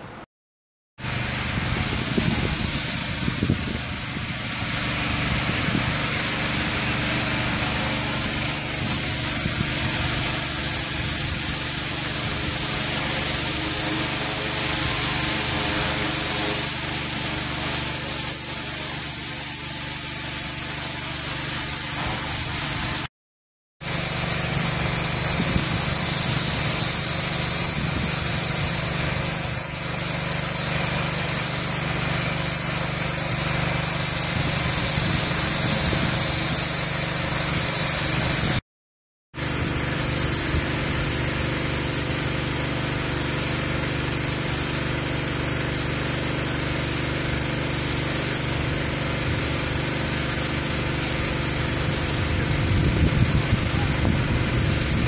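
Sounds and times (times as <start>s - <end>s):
power sprayer engine hum: 1.0s - 23.1s, 23.8s - 38.6s, 39.4s - 55.0s
high hiss of spray: 1.6s - 23.1s, 23.8s - 38.6s, 39.4s - 55.0s.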